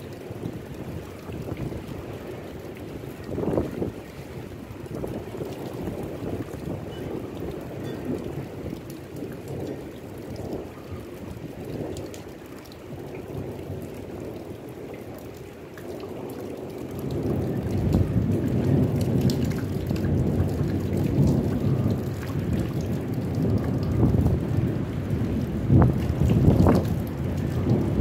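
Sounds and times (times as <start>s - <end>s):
rain falling: 0.0s - 28.0s
thunder rumbling: 0.0s - 28.0s.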